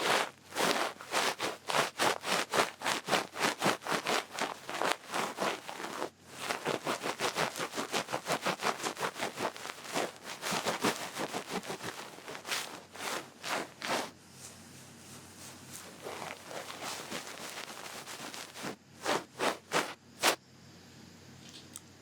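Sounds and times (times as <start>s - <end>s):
ear pick brushing and scratching: 0.0s - 20.4s.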